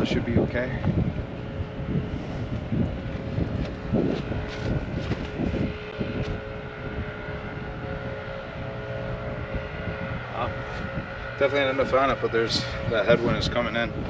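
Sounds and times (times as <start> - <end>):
distant engine drone: 0.0 - 14.0
wind rumbling on microphone: 0.0 - 14.0.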